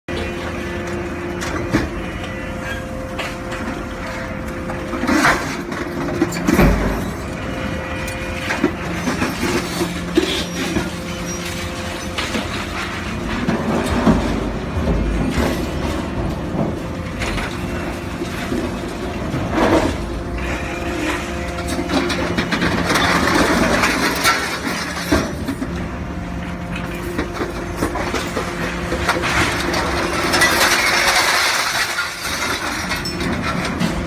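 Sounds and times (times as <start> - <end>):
machine hum: 0.1 - 34.0.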